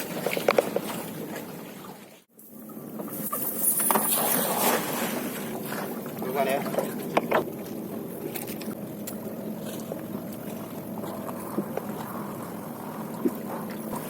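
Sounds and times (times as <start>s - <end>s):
water splashing: 0.0s - 2.3s, 3.1s - 14.0s
boat engine hum: 0.0s - 14.0s.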